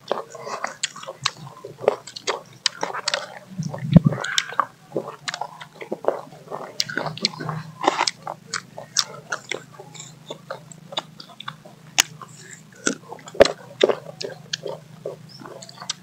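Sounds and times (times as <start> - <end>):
crunchy chewing of fruit: 0.0 - 16.0.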